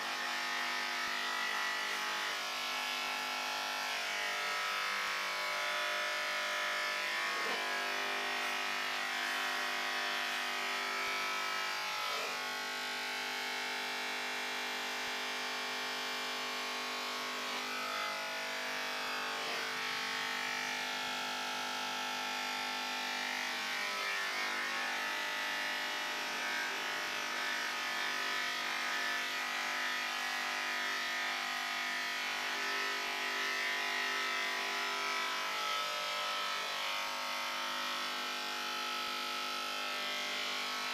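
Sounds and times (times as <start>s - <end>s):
electric hair clippers buzzing: 0.0s - 40.9s.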